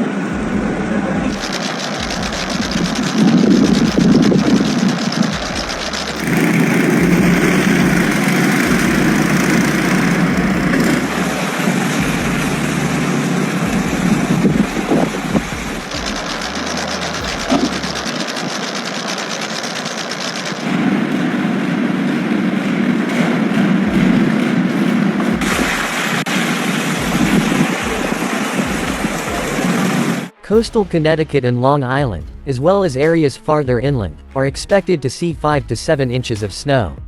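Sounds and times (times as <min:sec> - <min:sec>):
vehicle engines running: 0:00.0 - 0:31.4
street ambience: 0:00.0 - 0:36.5.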